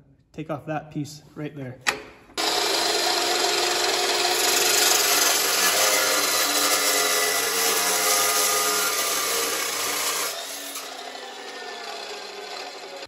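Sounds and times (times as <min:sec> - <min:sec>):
chop saw cutting steel pipe: 0:02.4 - 0:13.0.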